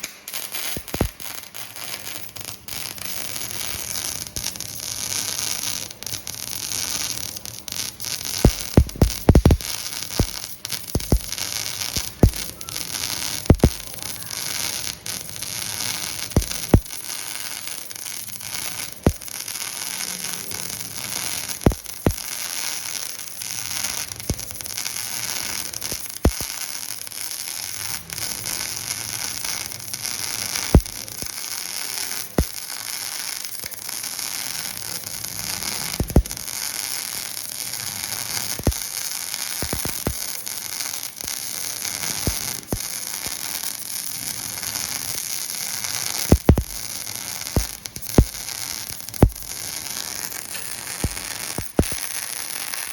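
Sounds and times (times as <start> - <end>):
welding arc sizzling: 0.0 - 52.9
welding crackles and pops: 0.0 - 52.9.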